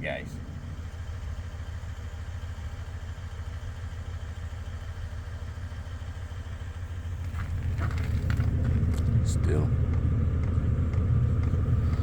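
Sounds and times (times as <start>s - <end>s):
diesel air heater humming: 0.0s - 12.0s.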